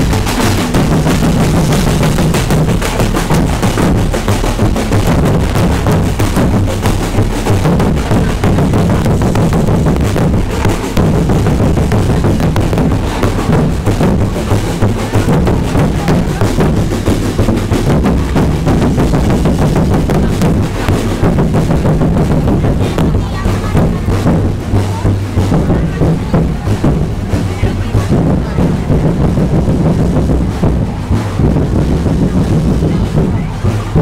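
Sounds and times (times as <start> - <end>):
marching drums playing fast beat: 0.0 - 34.0.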